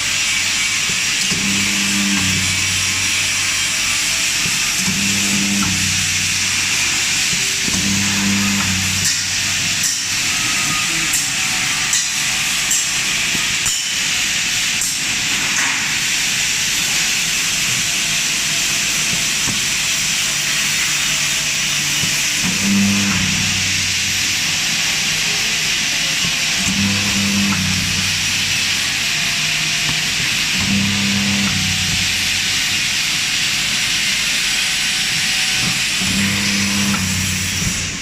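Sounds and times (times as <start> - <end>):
welding machine hissing: 0.0 - 38.0.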